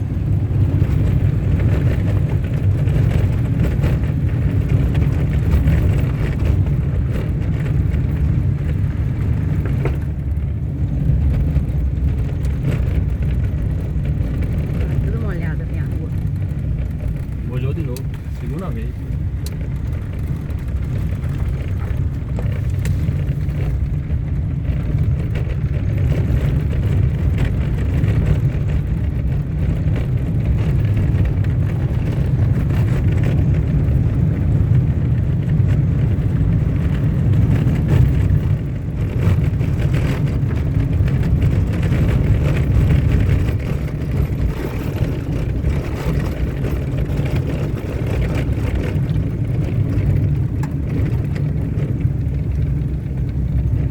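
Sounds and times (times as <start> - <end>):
car driving on dirt road: 0.0 - 53.9.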